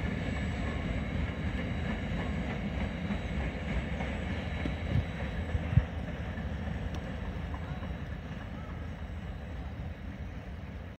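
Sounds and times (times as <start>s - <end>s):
train wheels rumbling on track: 0.0s - 10.9s.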